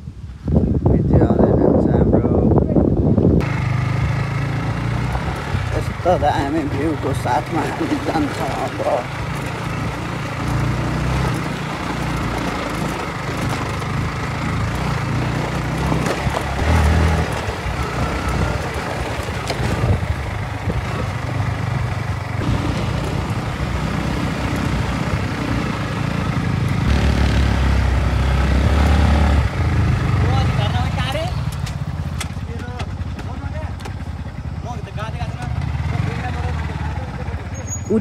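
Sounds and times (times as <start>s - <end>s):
road noise: 0.0s - 38.0s
vehicle engine running: 3.4s - 38.0s.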